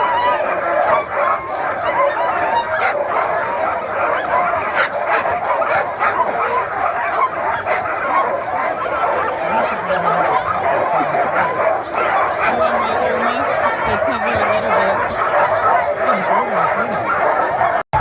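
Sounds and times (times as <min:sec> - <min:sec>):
dogs barking and howling: 0:00.0 - 0:18.0.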